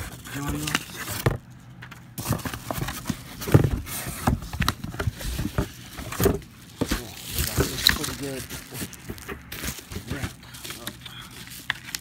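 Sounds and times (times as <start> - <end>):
package handling bumps and rustles: 0.0 - 12.0.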